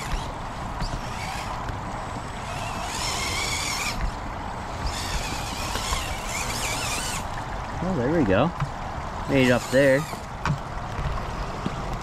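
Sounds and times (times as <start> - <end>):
electric motor and gears whining: 0.0 - 8.4, 9.2 - 12.0
stream water rushing: 0.0 - 12.0.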